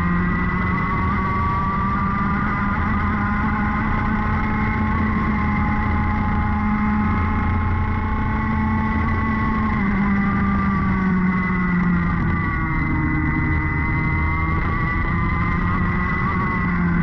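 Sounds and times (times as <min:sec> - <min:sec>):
kart engine running hard: 0:00.0 - 0:17.0
wind noise: 0:00.0 - 0:17.0.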